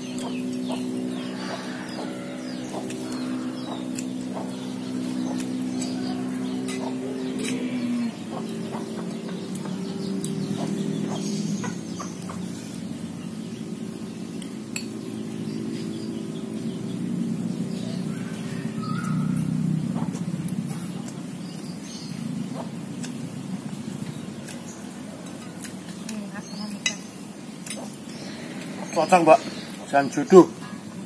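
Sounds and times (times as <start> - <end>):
chickens clucking: 0.0 - 14.6, 16.0 - 31.0.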